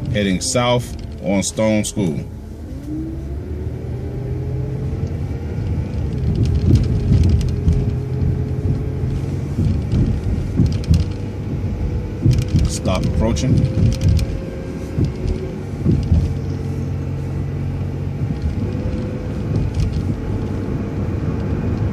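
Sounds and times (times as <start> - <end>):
bus engine rumble and whine: 0.0 - 21.9.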